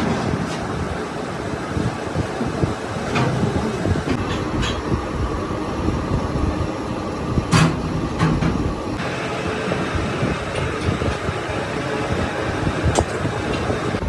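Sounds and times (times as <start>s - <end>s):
workshop machinery rumbling: 0.0s - 14.0s.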